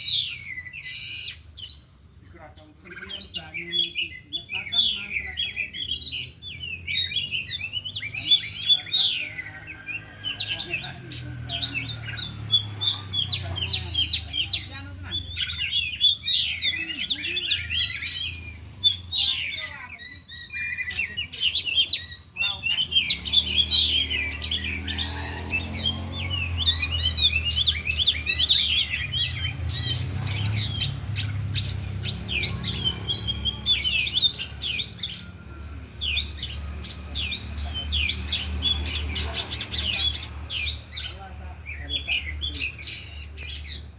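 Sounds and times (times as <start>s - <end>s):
birds singing: 0.0s - 43.9s.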